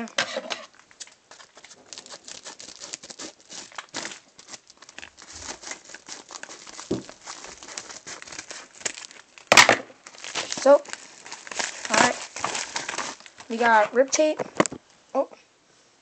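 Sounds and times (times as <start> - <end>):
packaging crinkling: 0.7 - 14.7.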